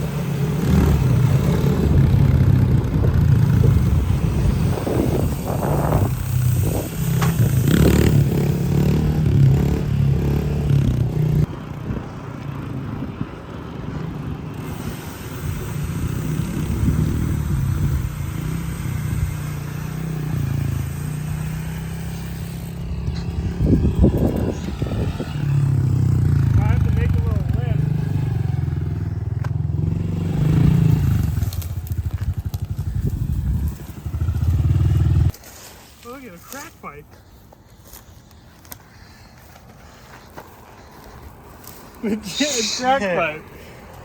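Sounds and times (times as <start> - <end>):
small motorbike engine running: 0.0 - 35.4.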